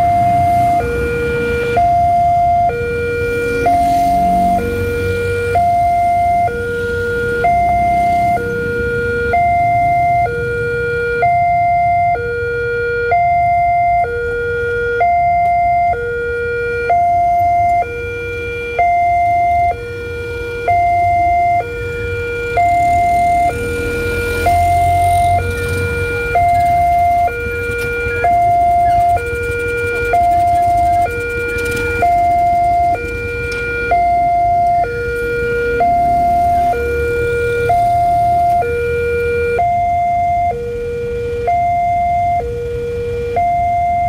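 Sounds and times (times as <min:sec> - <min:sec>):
two-tone level crossing alarm: 0:00.0 - 0:44.0.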